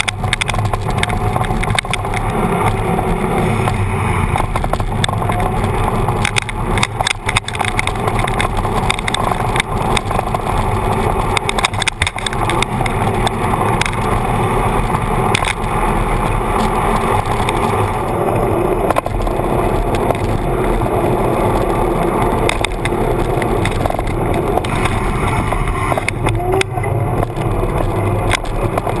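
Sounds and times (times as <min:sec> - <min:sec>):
knocks and rattles from bumps: 0:00.0 - 0:03.0, 0:03.6 - 0:18.2, 0:18.8 - 0:29.0
bicycle tyre rolling on asphalt: 0:00.0 - 0:29.0.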